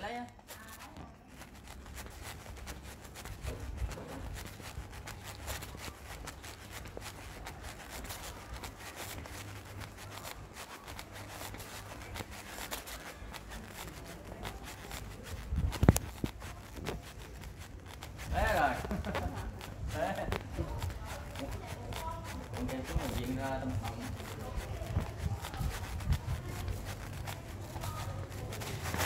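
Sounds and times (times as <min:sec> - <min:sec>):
footsteps on tiled floor: 0:00.0 - 0:29.0.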